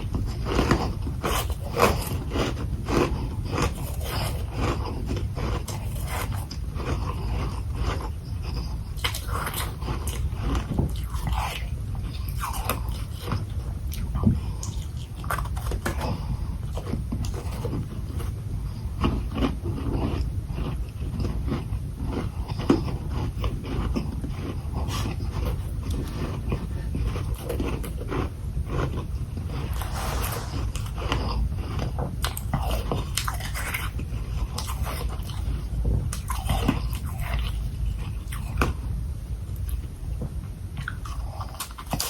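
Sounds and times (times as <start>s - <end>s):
person chewing crunchy frost: 0.0s - 38.9s, 40.8s - 42.0s.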